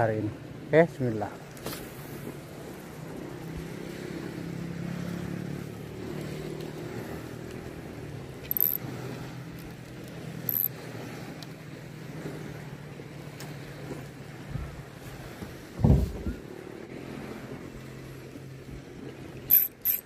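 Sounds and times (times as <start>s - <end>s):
boat engine humming: 1.9s - 15.8s, 16.4s - 20.0s.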